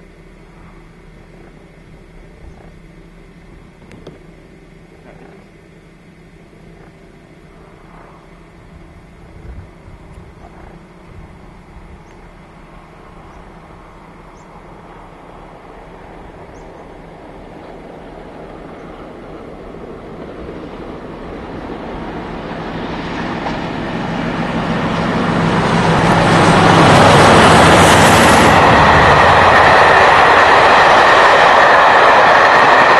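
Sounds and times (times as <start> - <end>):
diesel train approaching: 0.0 - 32.9
wheels rushing on rails: 6.4 - 32.9.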